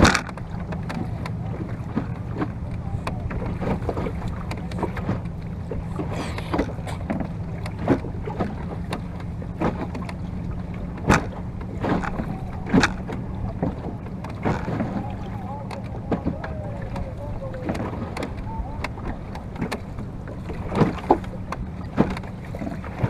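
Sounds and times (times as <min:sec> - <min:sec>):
steady low rumble: 0:00.0 - 0:23.0
water slapping against wooden boat: 0:00.0 - 0:23.0.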